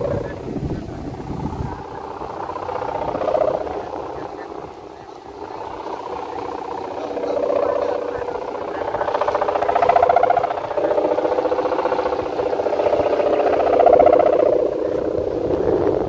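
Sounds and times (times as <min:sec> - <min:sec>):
kite hummer droning: 0:00.0 - 0:16.0.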